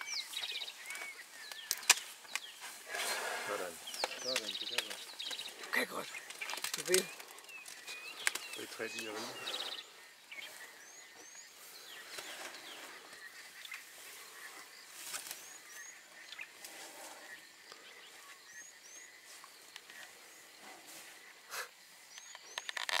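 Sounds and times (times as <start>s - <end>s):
quiet bush ambience: 0.0s - 23.0s.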